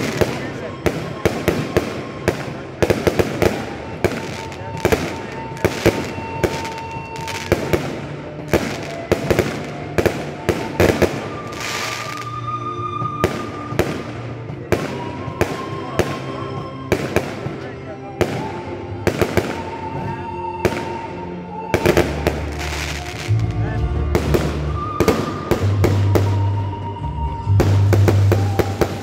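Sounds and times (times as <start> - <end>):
fireworks bangs and pops: 0.0 - 12.4, 13.0 - 21.0, 21.6 - 26.9, 27.5 - 29.0
music playing: 0.0 - 29.0.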